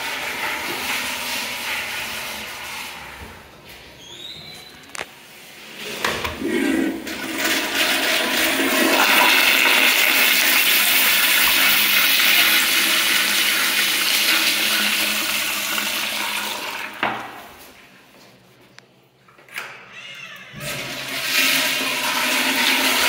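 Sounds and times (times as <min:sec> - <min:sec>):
toilet flushing: 0:00.0 - 0:03.8, 0:05.2 - 0:17.8, 0:20.5 - 0:23.0.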